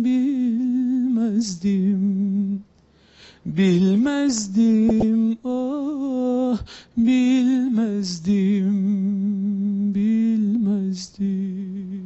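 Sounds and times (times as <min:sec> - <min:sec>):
man singing unaccompanied: 0:00.0 - 0:02.7, 0:03.4 - 0:12.0.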